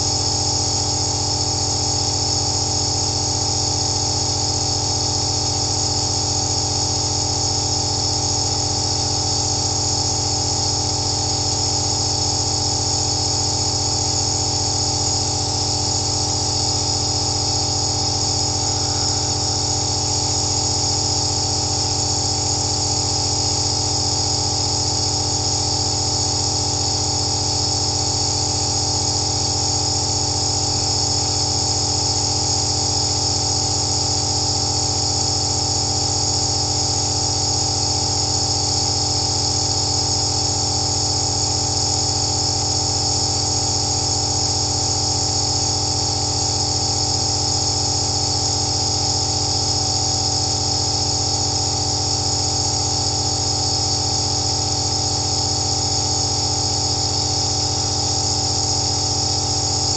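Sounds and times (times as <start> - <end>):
nebulizer motor hum: 0.0 - 59.9.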